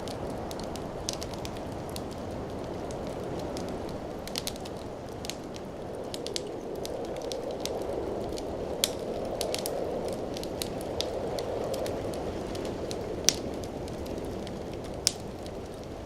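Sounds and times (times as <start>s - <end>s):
fire crackling and popping: 0.0s - 16.0s
fire flames rushing: 0.0s - 16.0s.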